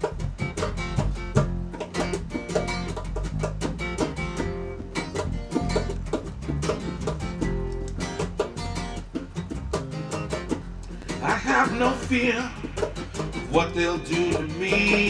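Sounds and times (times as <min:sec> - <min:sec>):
guitar notes: 0:00.0 - 0:15.0
steady bass: 0:00.0 - 0:15.0
band playing instrumental: 0:00.4 - 0:15.0.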